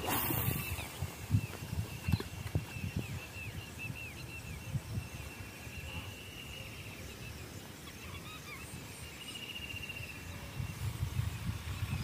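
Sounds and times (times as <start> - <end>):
birds chirping and trilling: 0.0 - 10.9.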